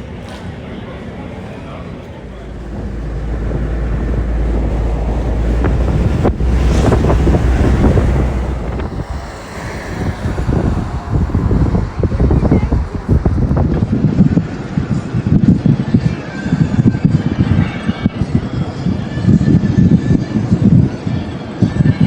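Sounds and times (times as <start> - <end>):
wind buffeting microphone: 1.9 - 20.8.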